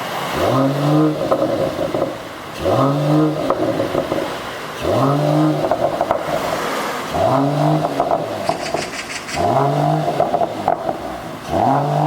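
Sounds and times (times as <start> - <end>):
car engine revving: 0.0 - 12.0
exhaust pops and crackles: 1.1 - 12.0.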